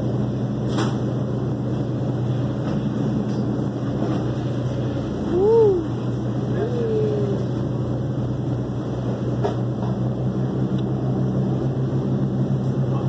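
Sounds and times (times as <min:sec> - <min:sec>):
boat engine droning: 0:00.0 - 0:13.0
water rushing along hull: 0:00.0 - 0:13.0.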